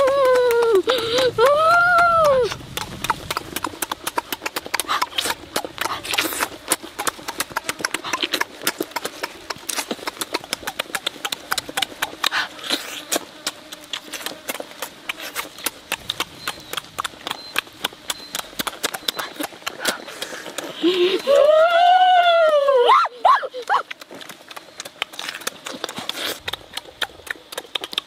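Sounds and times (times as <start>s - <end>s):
wet chewing and lip-smacking: 0.0s - 21.8s, 23.3s - 28.0s.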